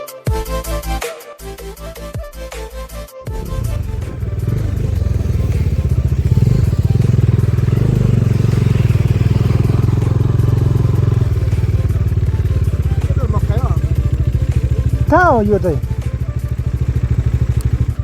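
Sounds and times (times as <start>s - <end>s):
motorcycle engine running: 3.3s - 18.0s.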